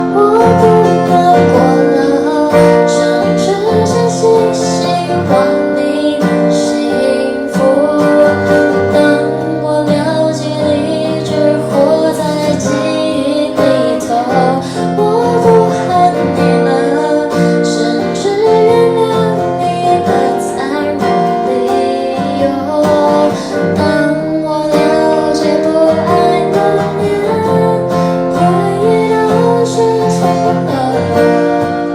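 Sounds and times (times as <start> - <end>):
acoustic guitar: 0.0 - 31.9
woman singing: 0.0 - 31.9.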